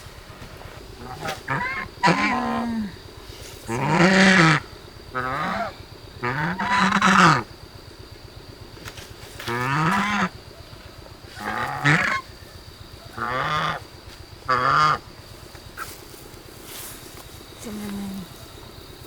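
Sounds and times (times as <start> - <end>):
geese honking: 0.0 - 7.5, 9.4 - 18.6.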